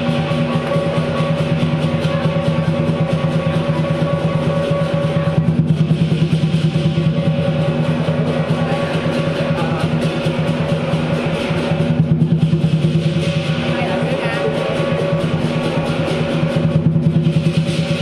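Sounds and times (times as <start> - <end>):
cymbals: 0.0 - 18.0
drum beating fast rhythm: 0.0 - 18.0.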